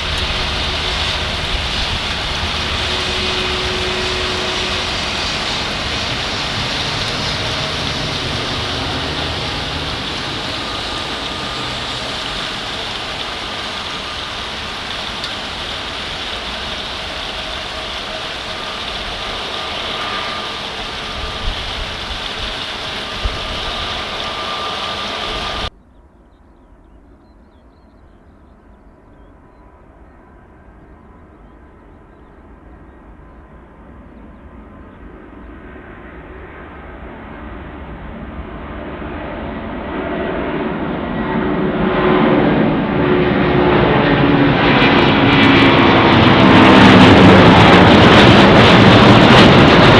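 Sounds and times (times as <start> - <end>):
dull distant jet sound: 0.0 - 25.7, 28.6 - 49.9
jet engine roar: 0.0 - 25.7, 33.2 - 49.9.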